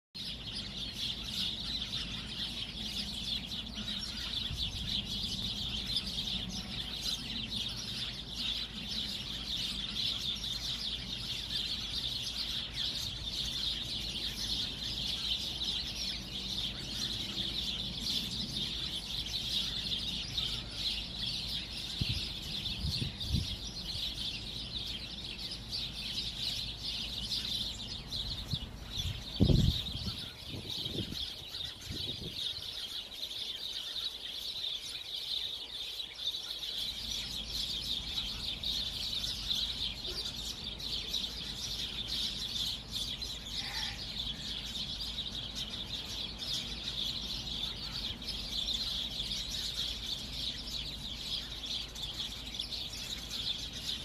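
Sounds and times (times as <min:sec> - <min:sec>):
many birds chirping: 0:00.2 - 0:54.0.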